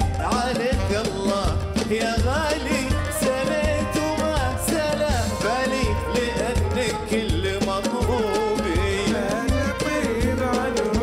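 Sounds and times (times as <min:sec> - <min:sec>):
band accompaniment: 0:00.0 - 0:11.0
drum rhythm: 0:00.0 - 0:11.0
man singing ornamented phrases: 0:00.0 - 0:11.0.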